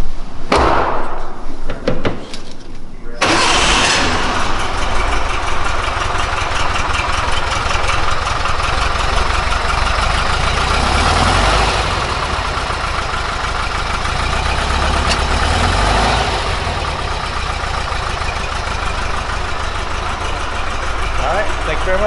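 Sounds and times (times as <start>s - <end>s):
car engine idling: 3.2s - 22.0s.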